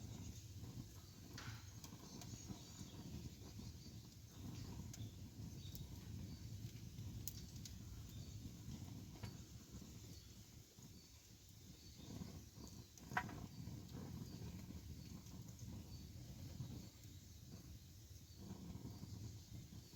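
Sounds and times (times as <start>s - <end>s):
campfire crackling: 0.0s - 19.9s.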